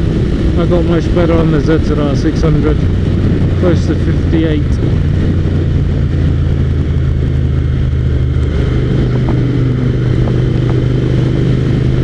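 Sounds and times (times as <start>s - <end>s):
motorcycle engine running: 0.0s - 12.0s
road noise: 0.0s - 12.0s
wind noise: 0.0s - 12.0s.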